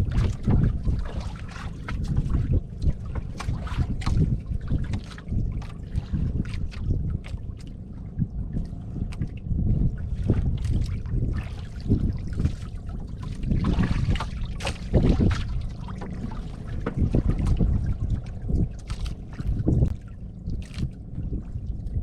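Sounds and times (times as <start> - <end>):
water splashing against boat hull: 0.0 - 22.0
wind buffeting microphone: 0.0 - 22.0.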